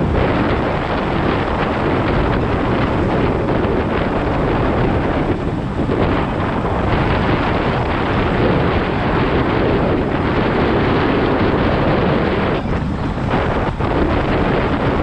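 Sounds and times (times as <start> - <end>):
motorcycle engine and road rumble: 0.0 - 15.0
wind buffeting microphone: 0.0 - 15.0.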